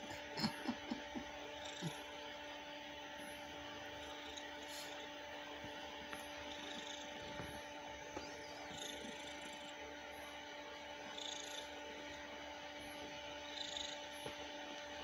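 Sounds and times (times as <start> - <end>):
cat purring: 0.0 - 14.6.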